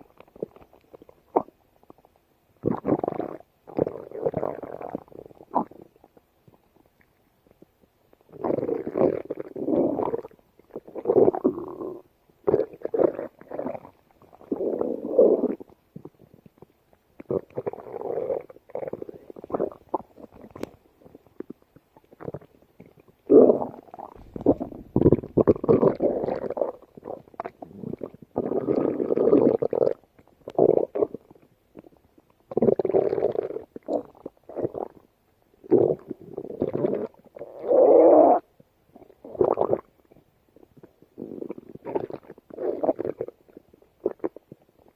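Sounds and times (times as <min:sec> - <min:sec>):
stomach growling and gurgling: 0:00.0 - 0:44.9.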